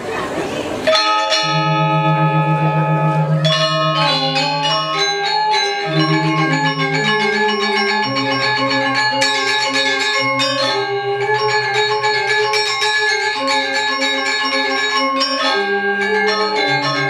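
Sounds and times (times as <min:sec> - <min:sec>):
metallophones ringing interlocking notes: 0:00.8 - 0:17.0.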